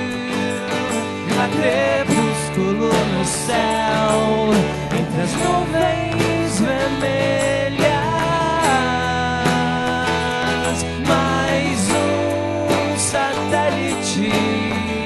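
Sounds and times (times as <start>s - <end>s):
acoustic guitars: 0.0s - 15.0s
electric guitar: 0.0s - 15.0s
steady drum beat: 0.0s - 15.0s.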